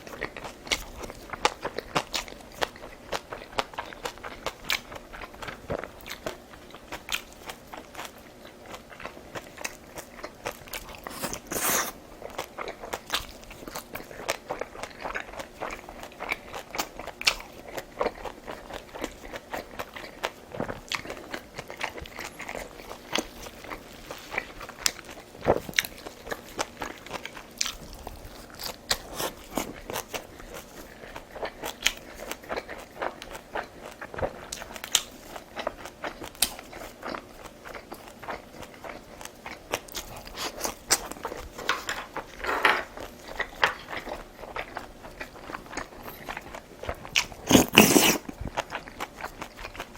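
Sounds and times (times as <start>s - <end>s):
person chewing and crunching food: 0.0s - 49.9s.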